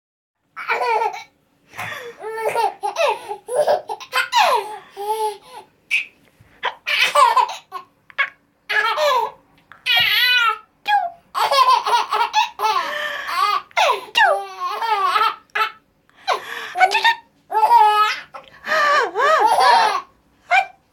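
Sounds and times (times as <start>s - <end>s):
baby laughing hard: 0.6s - 10.6s, 11.3s - 20.8s.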